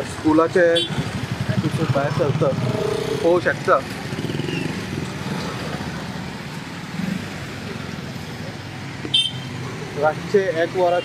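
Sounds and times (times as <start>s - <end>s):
road noise: 0.0s - 11.0s
traffic engines rumbling: 0.0s - 11.0s.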